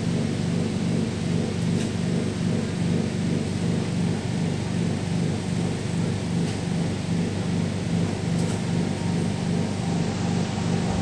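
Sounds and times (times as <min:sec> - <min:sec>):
train car rumble and hum: 0:00.0 - 0:11.0.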